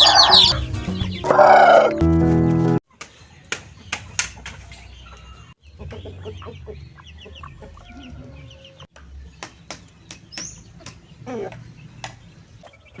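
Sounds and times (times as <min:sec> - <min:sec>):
chickens clucking: 0:00.0 - 0:02.0, 0:03.0 - 0:13.0.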